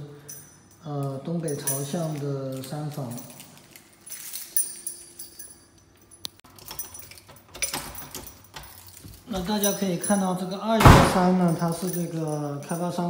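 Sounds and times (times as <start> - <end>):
keys jangling: 0.0 - 13.0.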